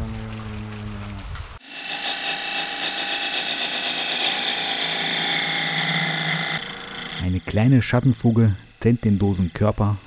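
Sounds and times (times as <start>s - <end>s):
faint machine whine: 1.6s - 10.0s
lathe tool cutting wood: 1.6s - 10.0s.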